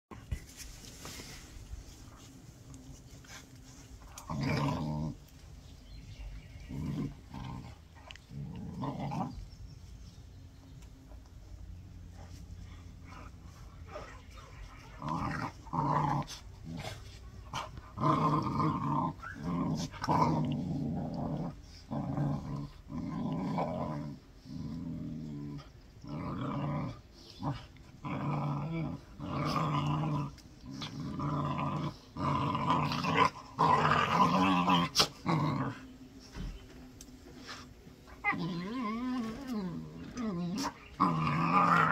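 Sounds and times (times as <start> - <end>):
dogs growling: 2.7 - 10.1, 11.8 - 36.4, 37.4 - 41.9.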